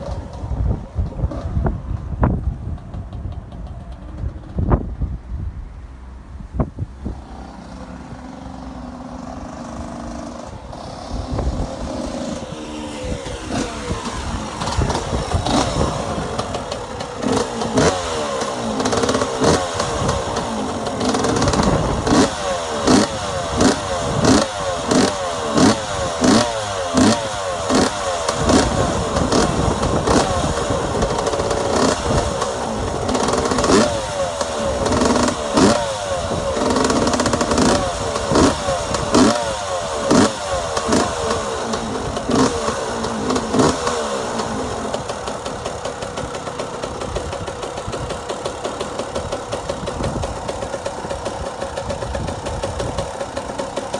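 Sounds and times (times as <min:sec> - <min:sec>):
two-stroke engine revving: 0:07.1 - 0:53.9.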